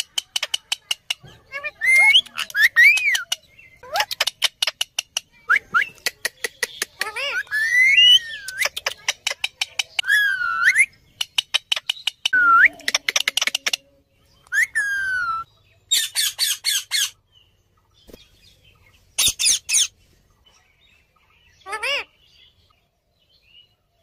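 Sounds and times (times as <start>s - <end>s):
parakeets squawking and chattering: 0.0s - 17.2s, 18.0s - 20.1s, 20.7s - 22.8s.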